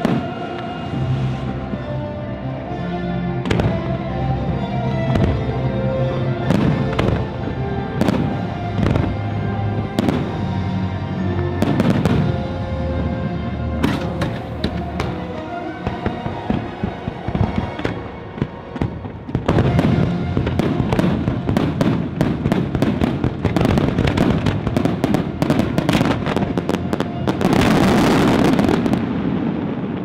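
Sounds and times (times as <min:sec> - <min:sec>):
fireworks launching and bursting: 0:00.0 - 0:01.9, 0:03.4 - 0:03.9, 0:06.4 - 0:12.9, 0:13.8 - 0:30.0
show music: 0:00.0 - 0:29.4.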